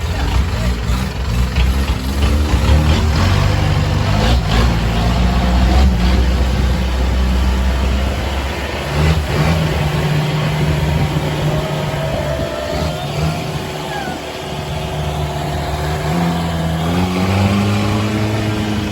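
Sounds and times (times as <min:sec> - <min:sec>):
boat engine running: 0:00.0 - 0:18.9.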